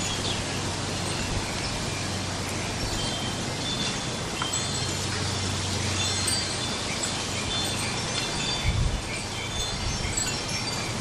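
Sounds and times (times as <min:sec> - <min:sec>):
wind rumbling on microphone: 0:00.0 - 0:11.0
wind rustling grass and leaves: 0:00.0 - 0:11.0.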